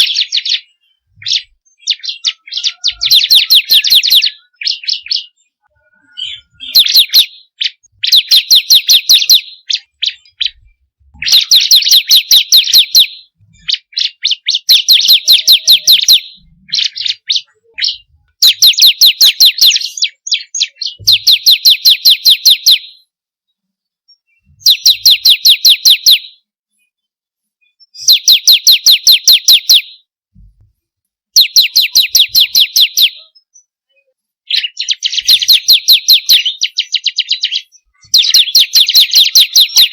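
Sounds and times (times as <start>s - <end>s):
bird song fast trills: 0.0s - 23.1s, 24.2s - 26.4s, 27.8s - 30.1s, 31.4s - 33.7s, 34.5s - 39.9s.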